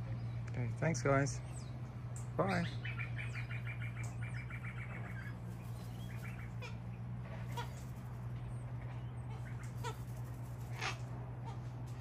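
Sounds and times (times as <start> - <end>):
birds chattering: 0.0 - 12.0
steady low hum: 0.0 - 12.0.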